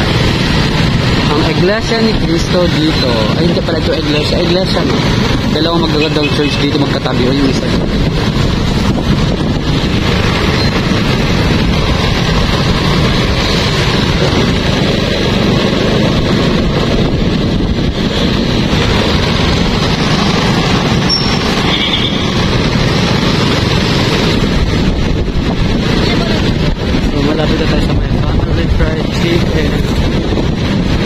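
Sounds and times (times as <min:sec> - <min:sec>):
engine and road noise: 0:00.0 - 0:31.0.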